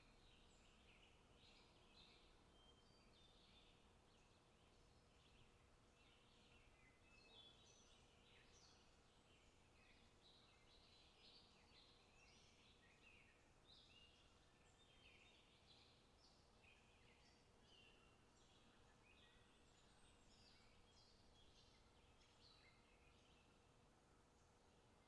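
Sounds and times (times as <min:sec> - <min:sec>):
low steady background noise: 0:00.0 - 0:25.0
small birds calling and singing: 0:00.0 - 0:25.0.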